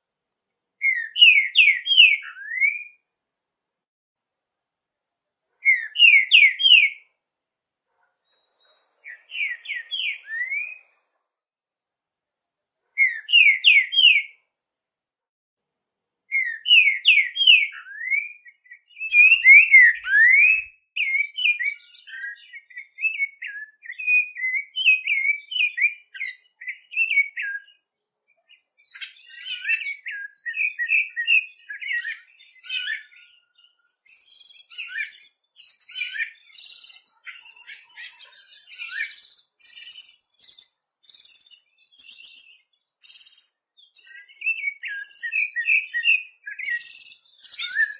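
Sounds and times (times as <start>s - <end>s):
songbird singing: 0.8s - 3.1s, 5.6s - 7.2s, 8.0s - 11.2s, 13.0s - 14.4s, 16.3s - 47.9s.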